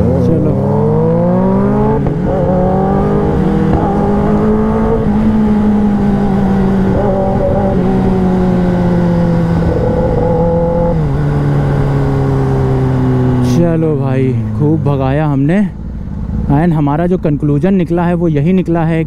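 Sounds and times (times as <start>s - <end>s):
motorcycle engine: 0.0s - 16.6s.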